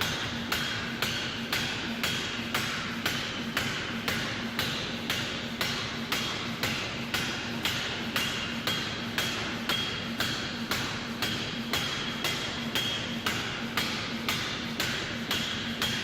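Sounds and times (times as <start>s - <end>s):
hammer striking hot metal: 0.0s - 16.0s
steady low hum: 0.0s - 16.0s.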